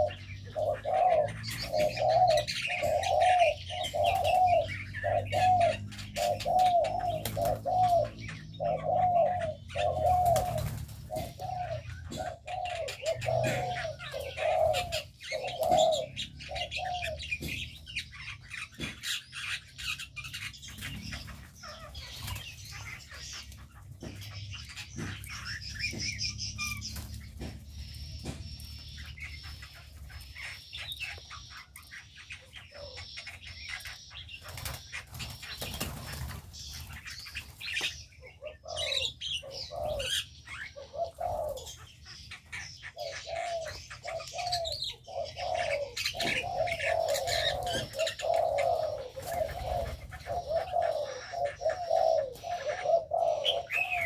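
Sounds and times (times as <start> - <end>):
birds chirping: 0.0 - 54.0
dove cooing: 0.0 - 54.0.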